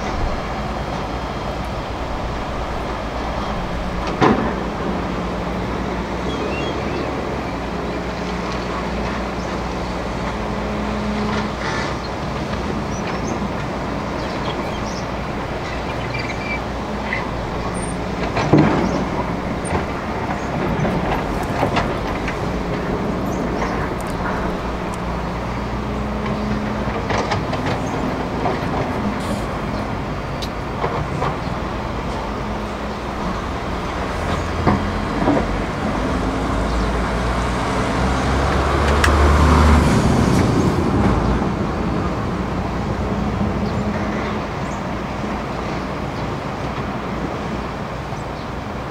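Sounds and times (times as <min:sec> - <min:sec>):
excavator diesel engine running: 0:00.0 - 0:48.9
water rushing: 0:00.0 - 0:48.9.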